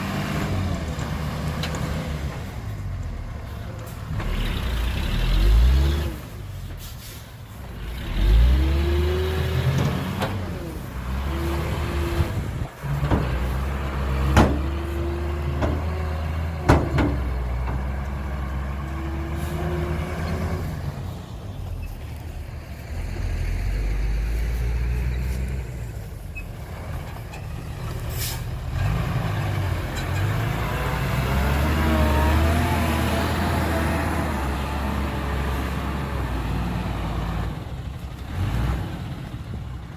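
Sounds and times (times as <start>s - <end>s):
heavy diesel engine revving: 0.0s - 6.6s, 7.6s - 21.4s, 22.6s - 39.9s.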